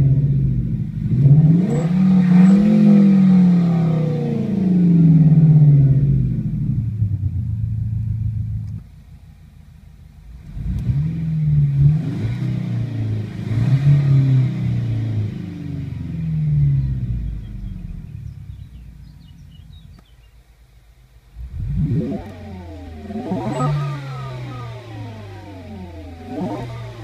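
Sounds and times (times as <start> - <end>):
car engine revving: 0.0 - 20.0, 21.3 - 27.0.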